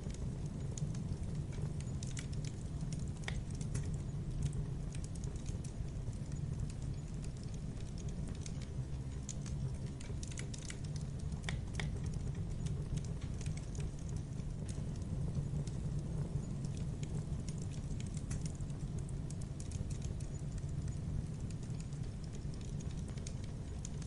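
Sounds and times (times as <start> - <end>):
campfire wood crackling and popping: 0.0 - 24.0
low rumble of flames: 0.0 - 24.0.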